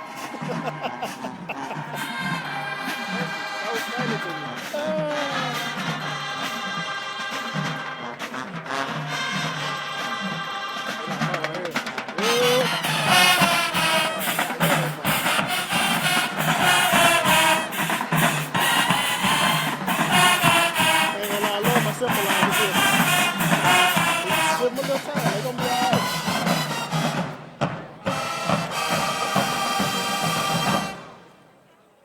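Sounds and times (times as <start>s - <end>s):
drumline beating: 0.0s - 31.3s
marching band brass: 0.0s - 31.6s.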